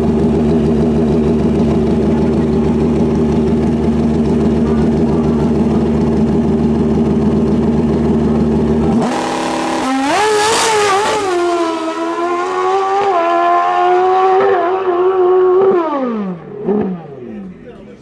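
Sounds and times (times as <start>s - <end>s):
motorcycle engine roaring: 0.0s - 18.0s.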